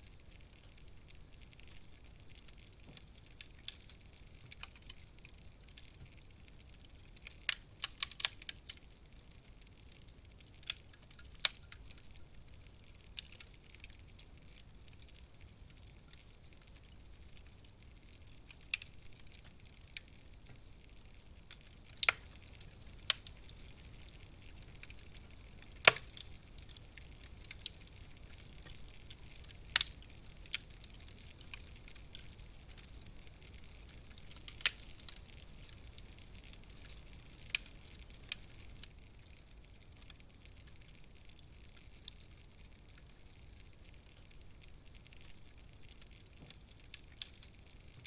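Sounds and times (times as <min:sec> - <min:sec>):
fire crackling pops and snaps: 0:00.0 - 0:48.0
low hiss of burning: 0:00.0 - 0:48.0.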